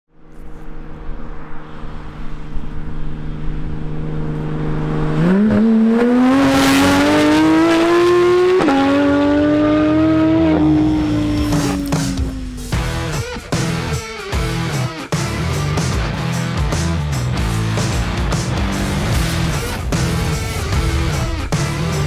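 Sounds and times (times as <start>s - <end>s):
sports car engine accelerating: 0.1s - 15.8s, 16.7s - 22.0s.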